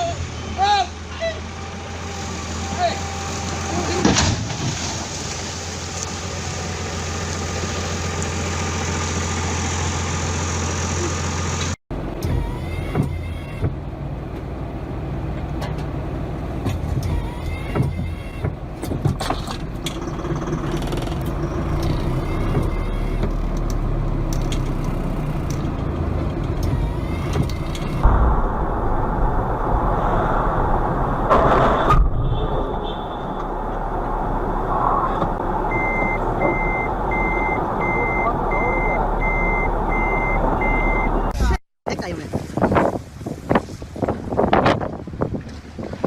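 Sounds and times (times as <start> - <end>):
heavy vehicle engine drone: 0.0 - 41.6
rough engine with knocks: 1.0 - 40.9.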